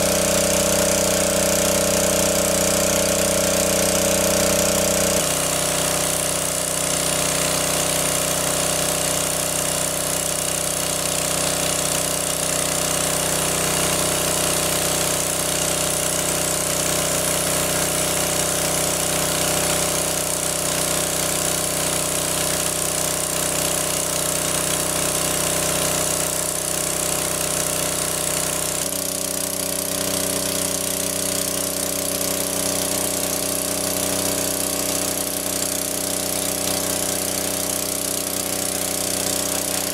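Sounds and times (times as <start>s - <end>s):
engine-driven water pump running: 0.0s - 39.9s.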